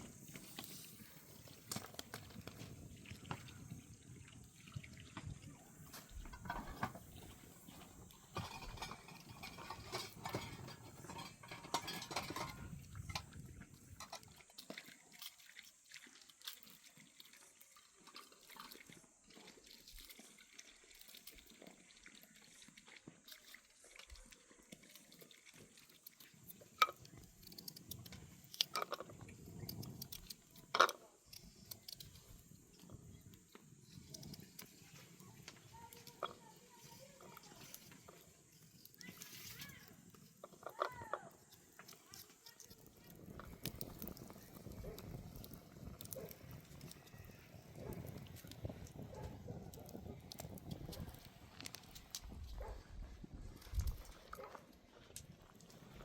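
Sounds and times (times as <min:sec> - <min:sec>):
water splashing and dripping: 0:00.2 - 0:56.0.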